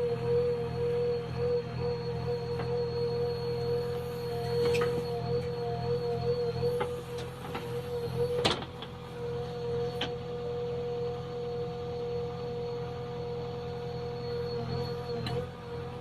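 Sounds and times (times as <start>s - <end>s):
diesel engine running: 0.0s - 16.0s
hydraulic whine: 0.0s - 16.0s.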